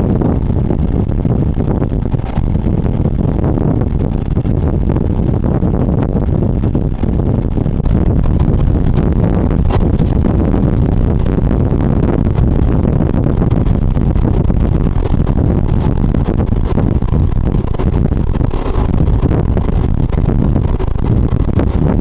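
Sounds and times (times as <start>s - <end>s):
outboard engines rumbling: 0.0s - 22.0s.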